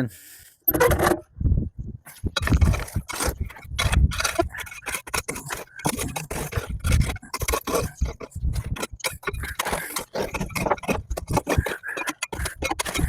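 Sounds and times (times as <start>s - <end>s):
ashes being raked and scraped: 2.0s - 13.0s.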